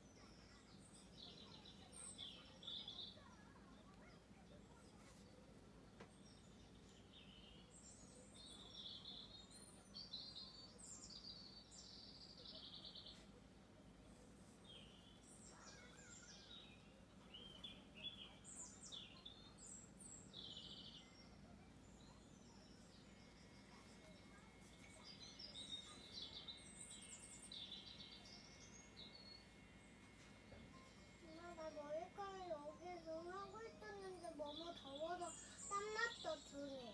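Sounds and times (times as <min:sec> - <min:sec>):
songbirds singing faintly: 0:00.0 - 0:36.9.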